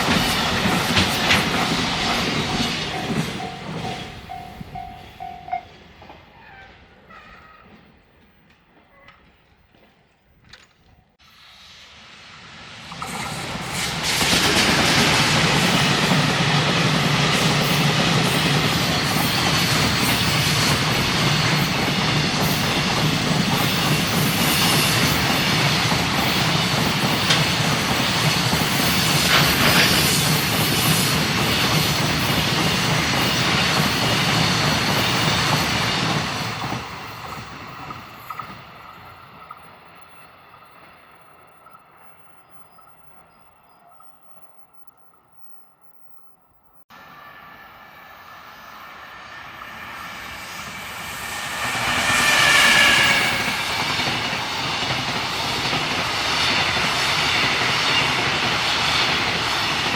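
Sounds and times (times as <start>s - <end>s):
freight train passing: 0.0s - 9.2s, 11.2s - 59.9s.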